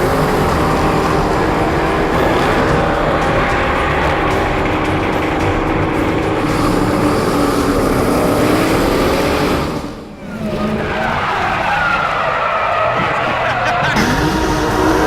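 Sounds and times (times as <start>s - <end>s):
car engine accelerating: 0.0s - 15.0s
tyre squeal: 0.0s - 15.0s.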